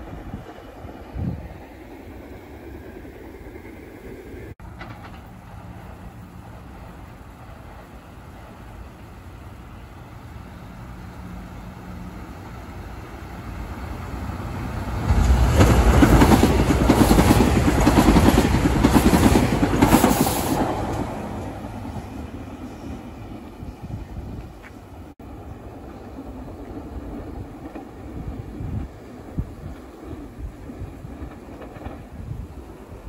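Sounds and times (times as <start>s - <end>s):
train passing with rattling wheels: 0.0s - 33.0s.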